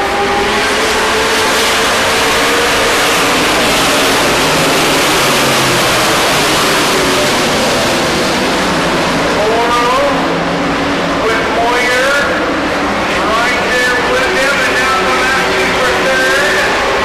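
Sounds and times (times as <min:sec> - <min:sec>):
race truck engines at speed: 0:00.0 - 0:17.0.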